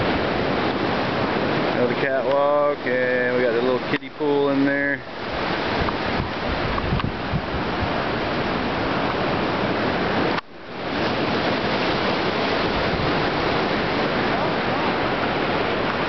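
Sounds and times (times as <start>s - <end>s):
choppy water: 0.0s - 16.0s
waves rushing: 0.0s - 16.0s
wind on microphone: 0.0s - 16.0s.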